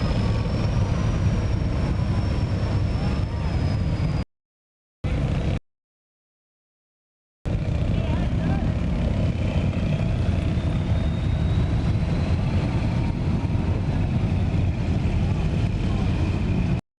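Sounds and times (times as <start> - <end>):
vehicle engines rumbling: 0.0 - 4.2, 5.1 - 5.6, 7.5 - 16.8.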